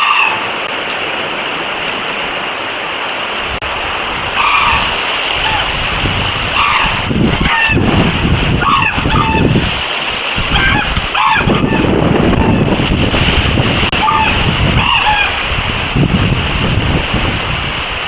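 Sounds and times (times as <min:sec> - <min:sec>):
steady rushing hiss: 0:00.0 - 0:18.0
wind rumble on microphone: 0:00.0 - 0:18.0.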